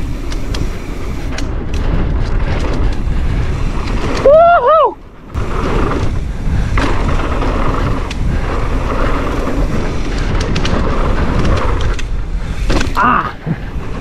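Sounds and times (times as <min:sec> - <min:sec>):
bike ticks and rattles: 0:00.0 - 0:14.0
tyres rumbling over dirt: 0:00.0 - 0:14.0
wind buffeting microphone: 0:00.0 - 0:14.0.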